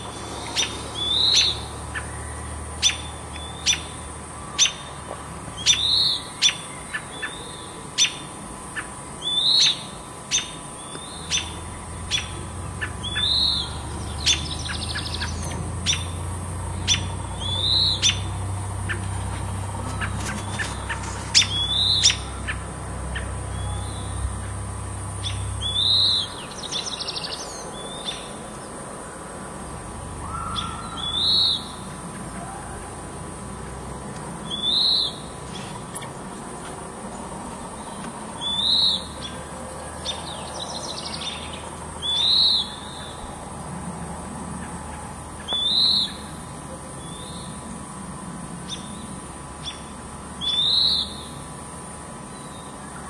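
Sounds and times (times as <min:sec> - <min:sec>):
small birds high calls: 0:00.0 - 0:28.8, 0:29.8 - 0:33.2, 0:34.2 - 0:36.8, 0:37.6 - 0:43.4, 0:44.6 - 0:47.7, 0:48.6 - 0:51.5.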